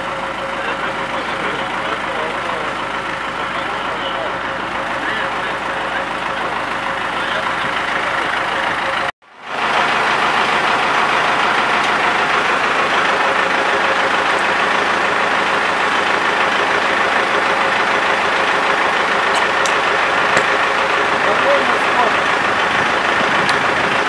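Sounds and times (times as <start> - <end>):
fire engine motor running: 0.0 - 24.0.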